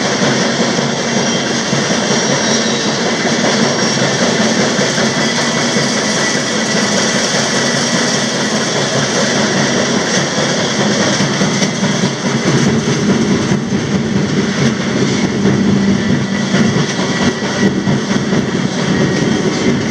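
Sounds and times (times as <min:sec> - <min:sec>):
steel wheels on rails: 0:00.0 - 0:19.9.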